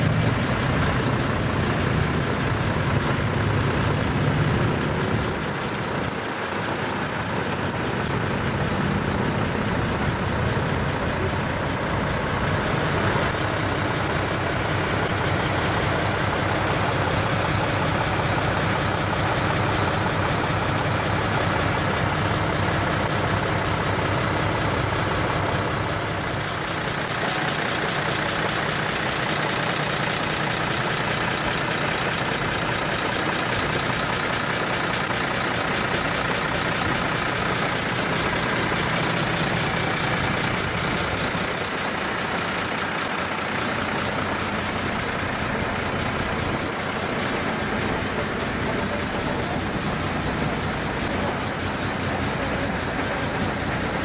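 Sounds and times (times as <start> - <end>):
diesel truck engine idling: 0.0 - 54.0
faint high ticking: 0.0 - 54.0.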